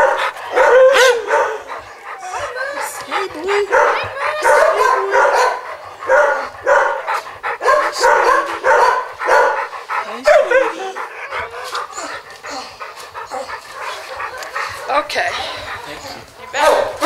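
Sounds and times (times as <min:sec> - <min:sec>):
dog whining: 0:00.0 - 0:15.0
dogs barking: 0:00.0 - 0:17.0.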